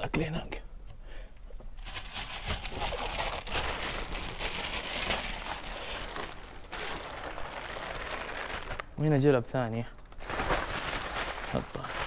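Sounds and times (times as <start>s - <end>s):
packaging crinkling and rustling: 1.8s - 12.0s.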